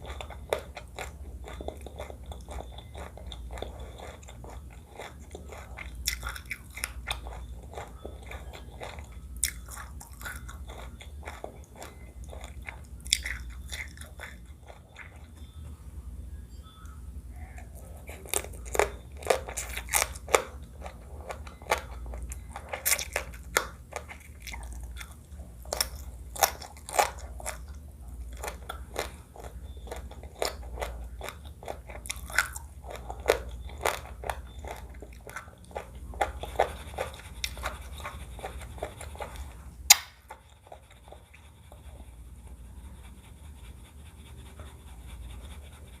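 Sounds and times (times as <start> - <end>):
crunching and chewing: 0.0 - 15.6, 17.4 - 46.0.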